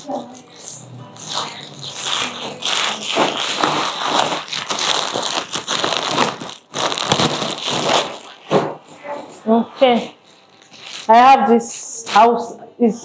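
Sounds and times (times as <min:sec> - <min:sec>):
plastic bag rustling and crinkling: 0:00.0 - 0:11.4.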